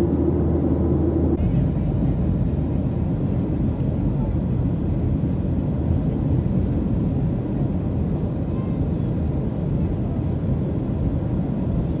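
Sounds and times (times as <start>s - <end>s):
airplane cabin low rumble: 0.0s - 12.0s.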